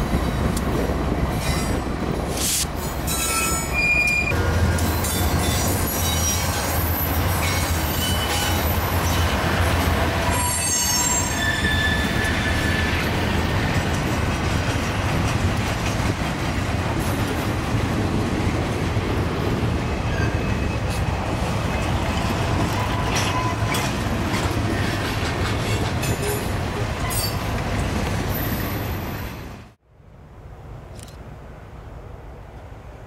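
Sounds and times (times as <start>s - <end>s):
diesel locomotives working: 0.0s - 29.8s
wheels rumbling on rail: 0.0s - 33.0s.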